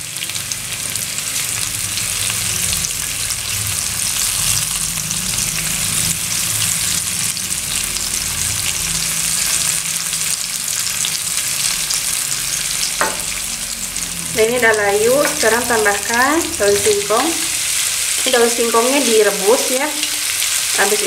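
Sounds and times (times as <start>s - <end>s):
aromatics sizzling in hot oil: 0.0s - 21.0s.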